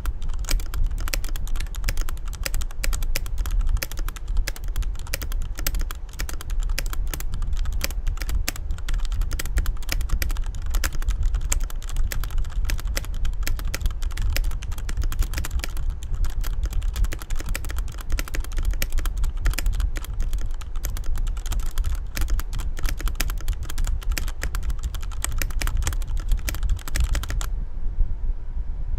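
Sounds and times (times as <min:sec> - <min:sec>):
mechanical keyboard typing: 0:00.0 - 0:27.5
steady low rumble: 0:00.0 - 0:28.9.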